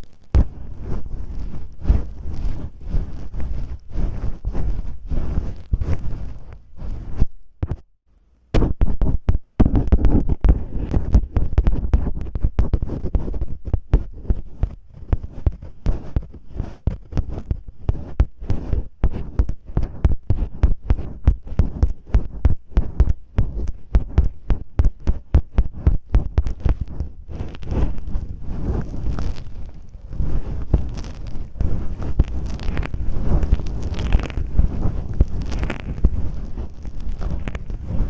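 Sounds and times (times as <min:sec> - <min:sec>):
tape scratching on microphone: 0:00.0 - 0:07.9, 0:08.5 - 0:38.0.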